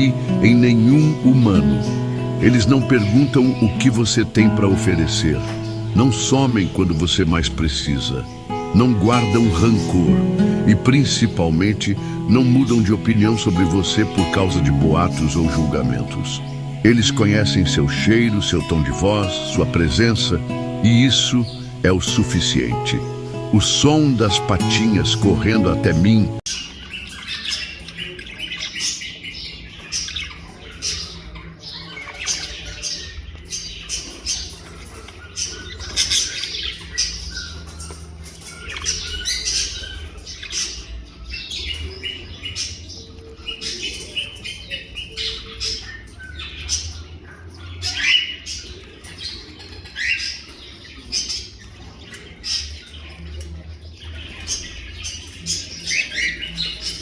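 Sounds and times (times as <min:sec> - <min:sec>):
birds chirping and squawking: 0:00.0 - 0:57.0.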